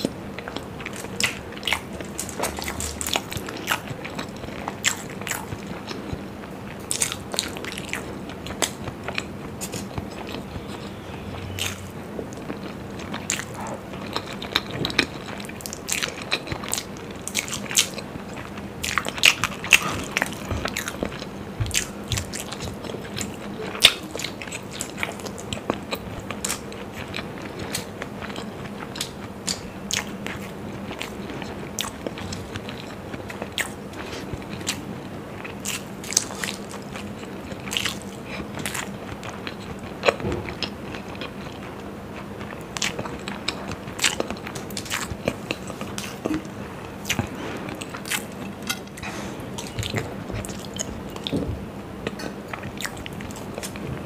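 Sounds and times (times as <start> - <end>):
chewing eggs: 0.0 - 54.0.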